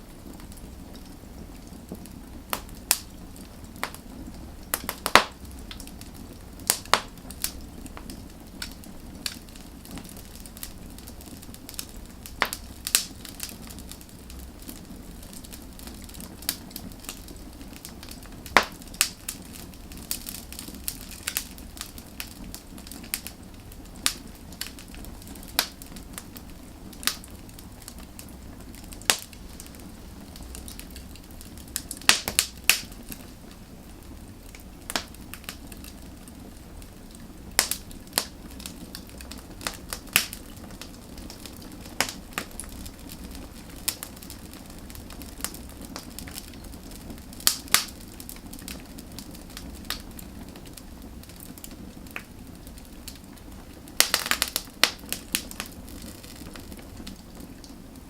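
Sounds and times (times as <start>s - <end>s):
firewood crackling and popping: 0.0s - 58.0s
low hiss of fire: 0.0s - 58.0s.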